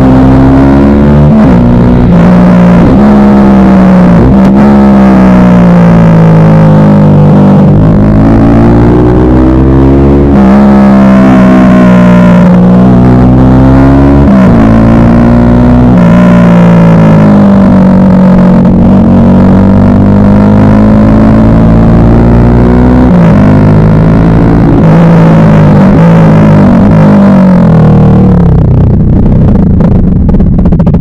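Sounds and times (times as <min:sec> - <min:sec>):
motorcycle engine running loud: 0:00.0 - 0:31.0.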